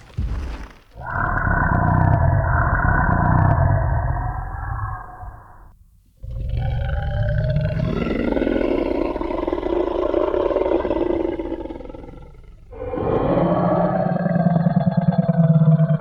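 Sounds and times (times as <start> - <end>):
deep dinosaur roar: 1.0 - 16.0.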